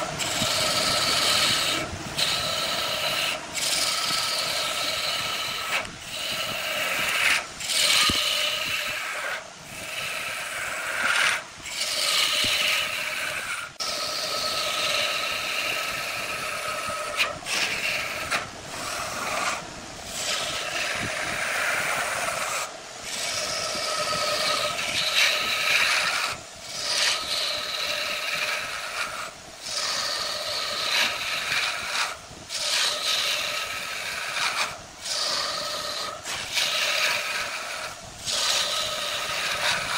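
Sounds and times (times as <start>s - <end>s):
lathe tool shaving wood: 0.0s - 39.9s.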